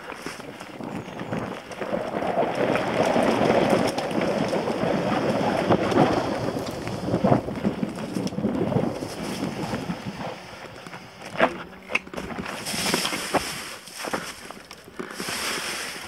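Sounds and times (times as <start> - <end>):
mountain bike rattling on dirt trail: 0.0 - 16.0.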